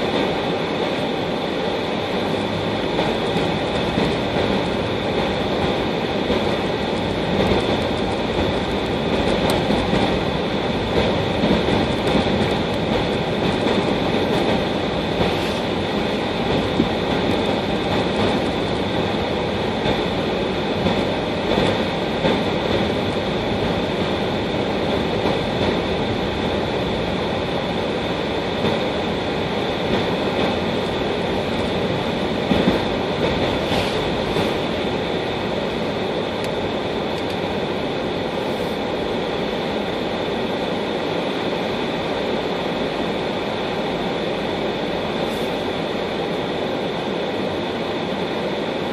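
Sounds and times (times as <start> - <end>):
constant high whine: 0.0 - 48.9
road and tyre noise: 0.0 - 48.9.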